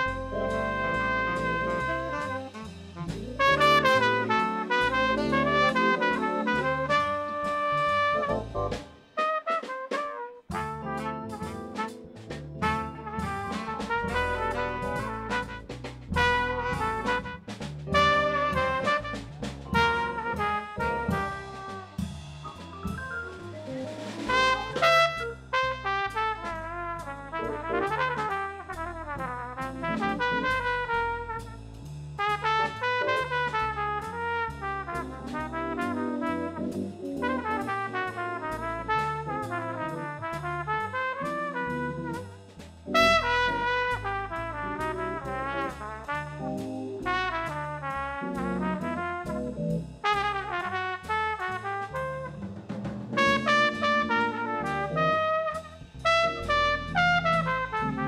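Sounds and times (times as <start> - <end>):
upright bass: 0.0 - 9.0, 10.5 - 58.0
brass horn solo: 0.0 - 22.3, 24.2 - 52.6, 53.2 - 58.0
drum kit cymbals: 0.0 - 57.8.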